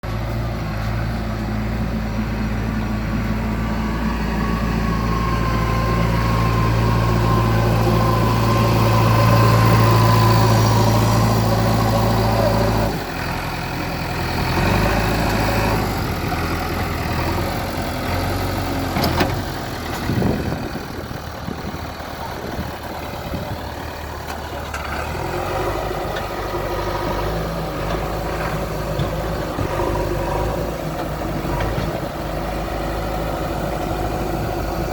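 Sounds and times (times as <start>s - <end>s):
heavy diesel engines: 0.0s - 34.9s.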